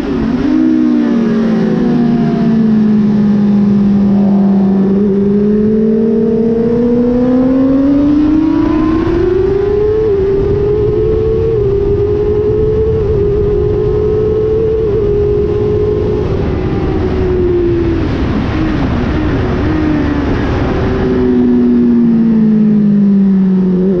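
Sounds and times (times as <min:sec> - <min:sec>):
motorcycle engine revving: 0:00.0 - 0:24.0
wind rush: 0:00.0 - 0:24.0.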